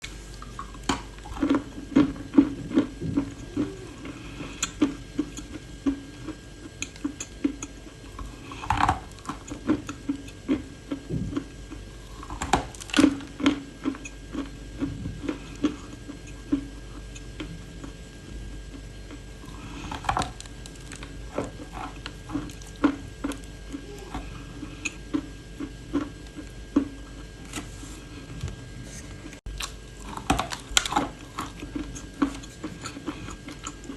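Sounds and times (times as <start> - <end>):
person chewing crunchy clay: 0.1 - 33.9.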